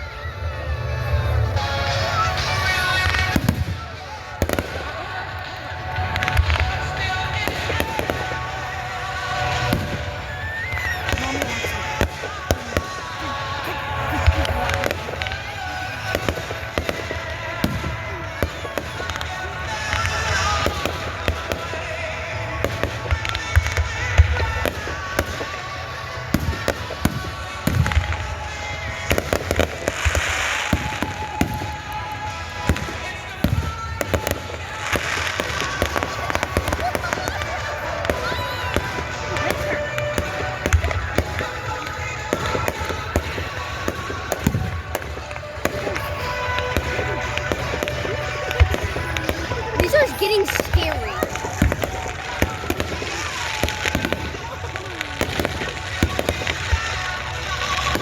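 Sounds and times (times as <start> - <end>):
fireworks popping and banging: 0.0 - 58.0.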